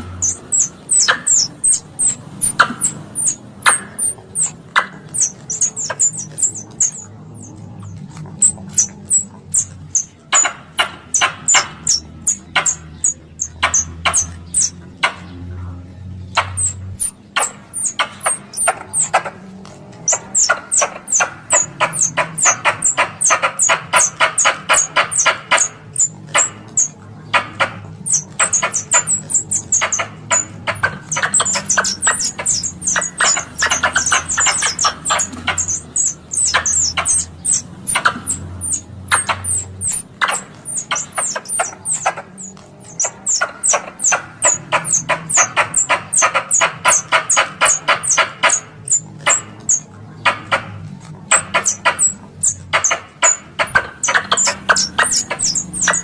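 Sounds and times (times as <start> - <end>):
squirrel chattering chirps: 0.0 - 56.0.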